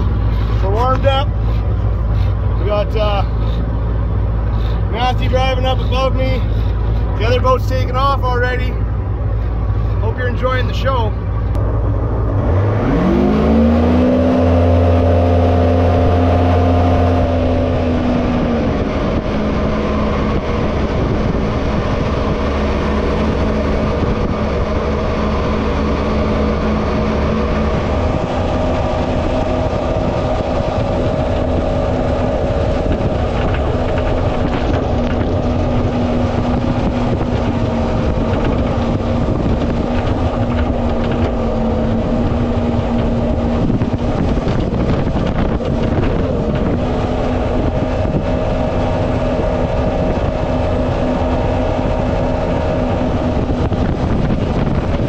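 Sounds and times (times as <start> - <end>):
jet boat engine revving: 0.0 - 55.0
rush of water and wind: 0.0 - 55.0.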